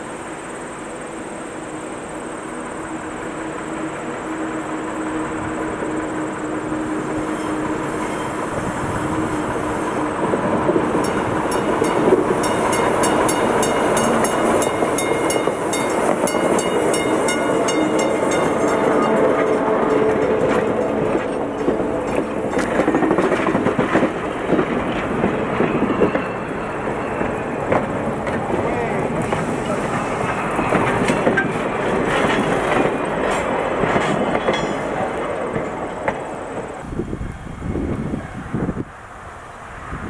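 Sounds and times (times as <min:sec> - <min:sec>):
diesel locomotive engine: 0:00.0 - 0:40.0
train wheels clicking: 0:03.6 - 0:37.5.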